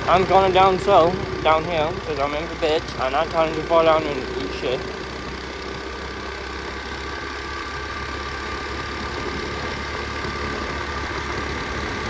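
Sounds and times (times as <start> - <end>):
pit bike engine idling: 0.0 - 12.0.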